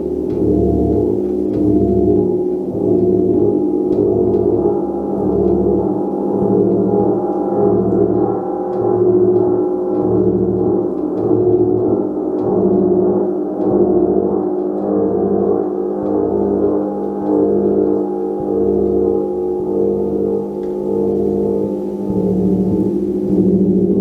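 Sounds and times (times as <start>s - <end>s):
gong ringing: 0.0s - 24.0s.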